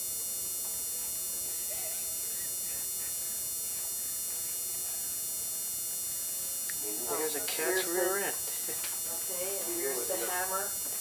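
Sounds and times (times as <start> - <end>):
camcorder hum and hiss: 0.0 - 11.0.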